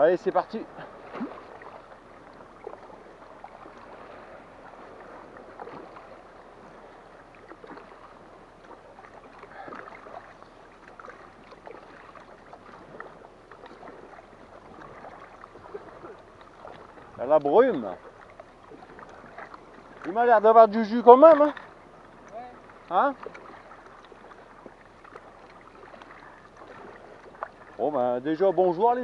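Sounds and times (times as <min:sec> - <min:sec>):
paddle splashing in water: 0:00.0 - 0:29.0
steady wash of water: 0:00.0 - 0:29.0.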